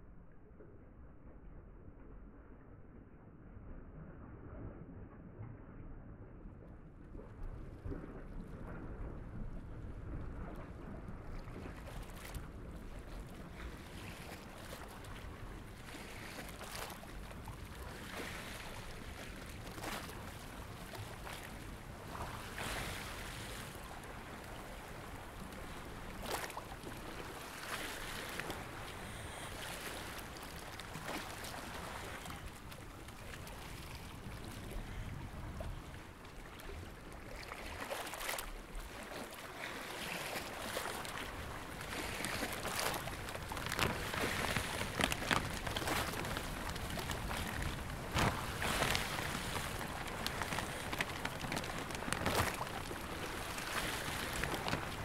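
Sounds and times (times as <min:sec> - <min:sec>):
underwater water rush: 0:07.8 - 0:55.0.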